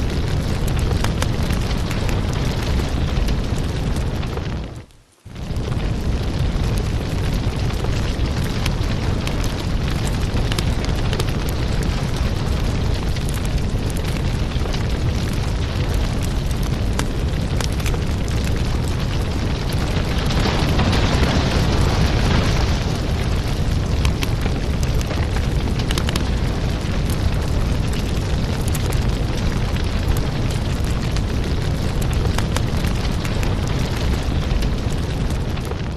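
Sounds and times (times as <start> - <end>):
fire hissing: 0.0 - 35.8
logs crackling and popping: 0.0 - 35.9
low rumble of flames: 0.0 - 35.9.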